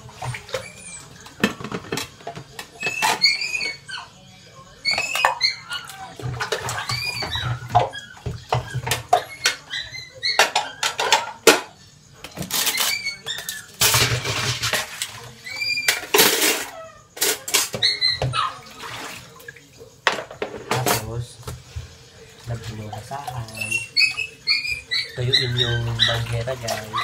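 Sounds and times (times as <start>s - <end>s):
running splashing water: 0.0s - 3.9s, 4.9s - 9.7s, 13.0s - 27.0s
dishes clinking and clattering: 0.0s - 4.2s, 4.8s - 27.0s.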